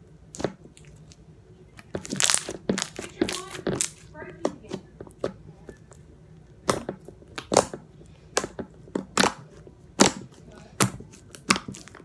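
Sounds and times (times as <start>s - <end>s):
slime squished by hand: 0.2s - 12.0s.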